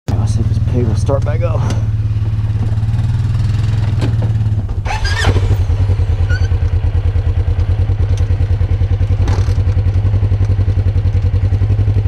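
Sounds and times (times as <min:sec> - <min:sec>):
vehicle engines idling: 0:00.1 - 0:12.0.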